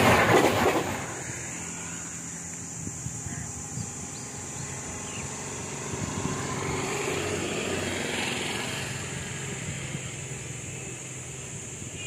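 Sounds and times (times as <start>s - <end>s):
small vehicle engine passing: 0.0s - 11.9s.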